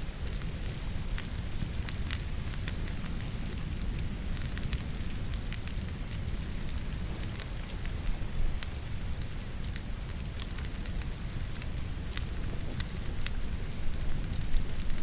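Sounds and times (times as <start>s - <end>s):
logs crackling in fireplace: 0.0s - 15.0s
rain patter: 0.0s - 15.0s.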